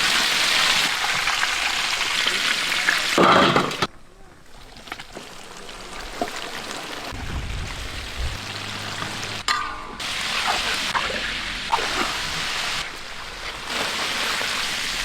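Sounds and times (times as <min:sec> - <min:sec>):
chicken deep-frying in hot oil: 0:00.0 - 0:03.9, 0:04.6 - 0:15.0.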